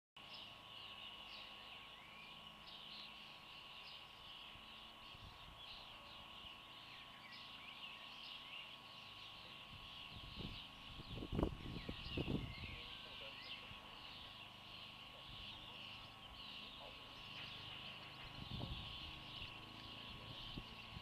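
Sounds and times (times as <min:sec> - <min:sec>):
small birds twittering: 0:00.2 - 0:21.0.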